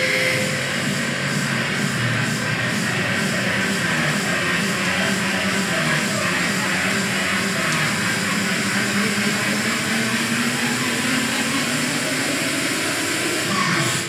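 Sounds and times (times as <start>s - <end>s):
loud music: 0.0s - 14.0s.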